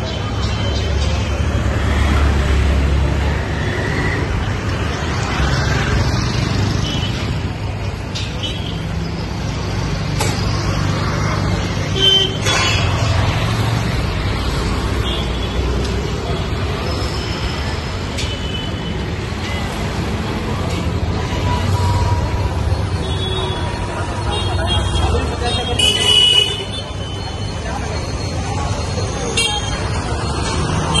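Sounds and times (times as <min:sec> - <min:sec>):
vehicle engines rumbling: 0:00.0 - 0:31.0.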